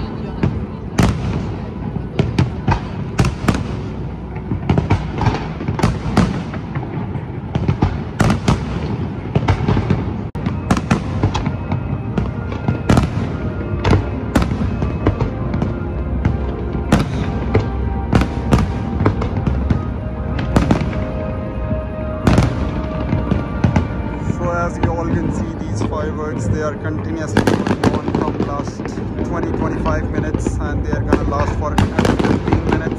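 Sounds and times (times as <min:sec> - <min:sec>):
fireworks bangs: 0:00.0 - 0:32.9
fireworks crackling: 0:00.0 - 0:32.9
music: 0:00.0 - 0:32.9.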